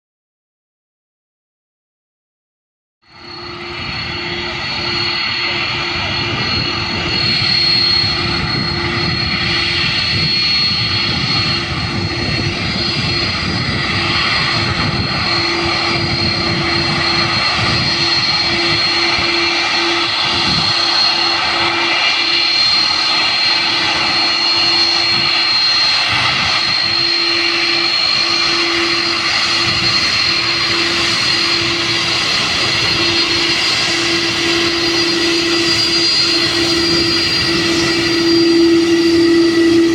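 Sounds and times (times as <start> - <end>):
jet engines running: 3.1 - 39.9.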